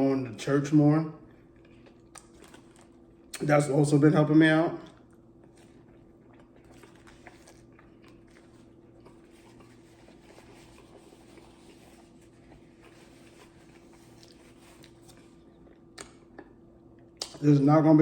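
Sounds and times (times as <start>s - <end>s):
low steady hum: 0.0s - 18.0s
chewing and mouth clicks: 1.2s - 3.5s, 4.8s - 17.4s.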